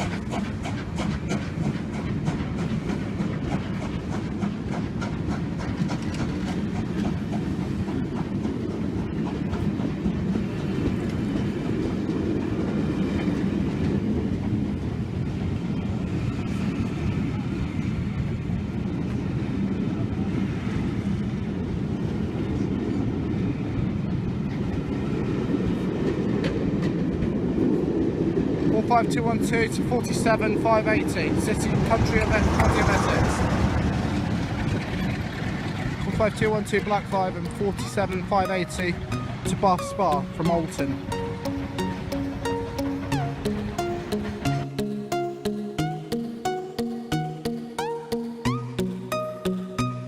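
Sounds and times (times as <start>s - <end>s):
train carriages rolling on rails: 0.0s - 44.6s.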